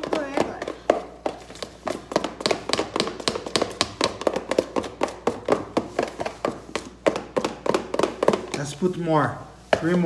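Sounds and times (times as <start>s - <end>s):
slime being stirred with taps and clicks: 0.0s - 9.0s.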